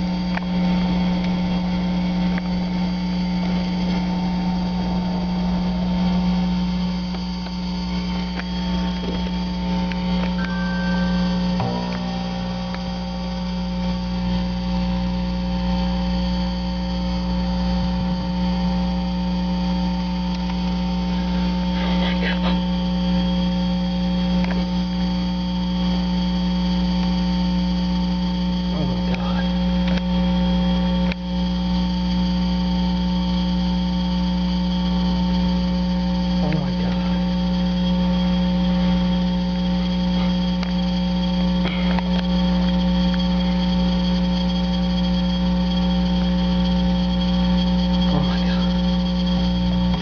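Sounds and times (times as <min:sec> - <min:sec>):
loud electrical buzz: 0:00.0 - 0:50.0.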